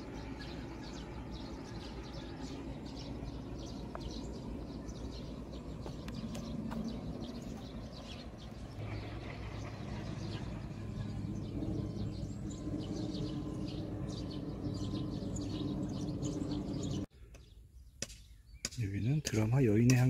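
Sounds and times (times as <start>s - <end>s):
low engine hum: 0.0s - 17.1s
small birds chirping: 0.0s - 20.0s.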